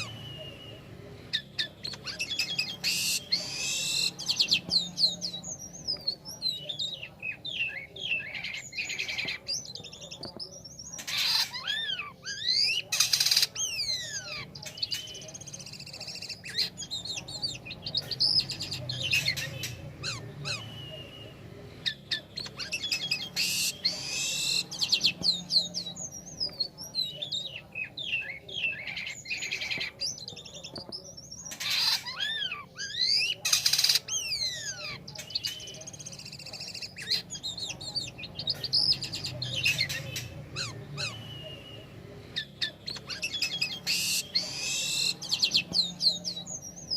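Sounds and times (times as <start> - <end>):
starling singing: 0.0 - 46.9.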